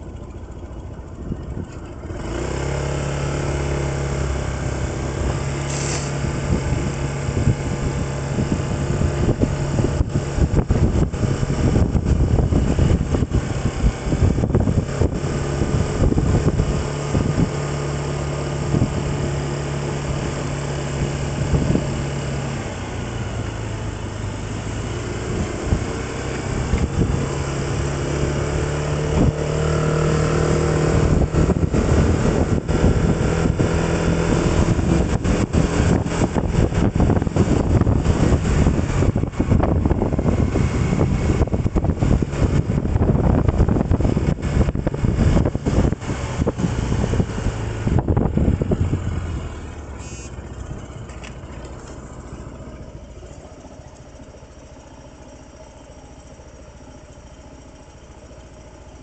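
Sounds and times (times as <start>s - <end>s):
vehicle engine running: 0.0s - 59.0s
rough gusty wind noise: 1.3s - 23.8s, 24.4s - 49.6s.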